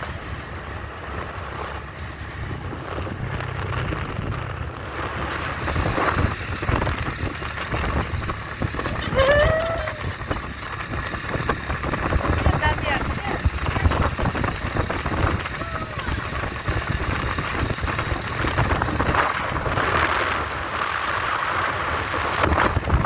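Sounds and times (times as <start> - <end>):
motor scooter drone: 0.0 - 23.0
wind rushing over microphone: 0.0 - 23.0.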